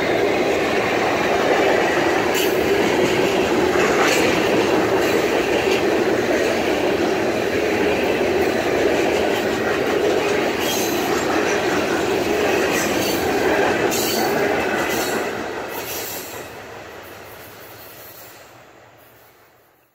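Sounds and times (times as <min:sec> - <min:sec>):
freight cars rolling on rails: 0:00.0 - 0:19.9.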